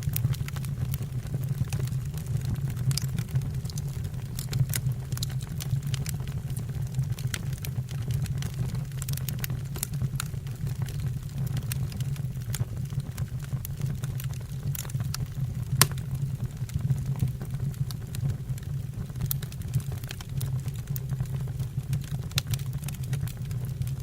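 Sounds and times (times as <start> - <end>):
fire crackling and popping: 0.0 - 24.0
low rumble of burning logs: 0.0 - 24.0.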